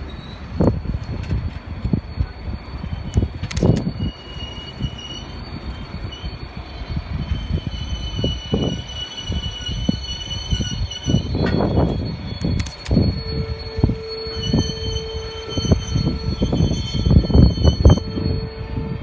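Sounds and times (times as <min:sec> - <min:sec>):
train rolling on rails: 0:00.0 - 0:19.0
wheel squeal: 0:00.0 - 0:19.0.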